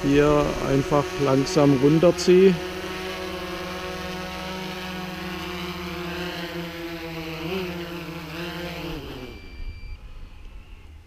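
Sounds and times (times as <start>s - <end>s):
drone motors winding down: 0.0s - 11.0s
quadcopter propellers humming: 0.0s - 11.0s.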